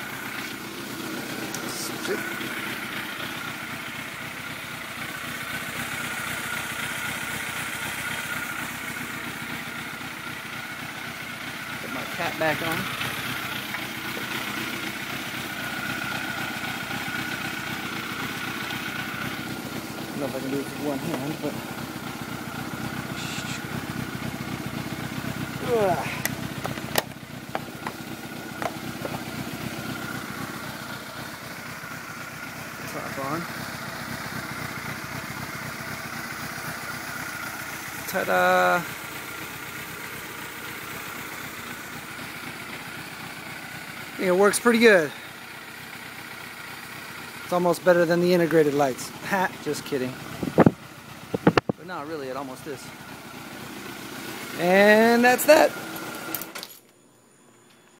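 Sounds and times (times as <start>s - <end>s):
motorcycle engine idling: 0.0s - 56.4s.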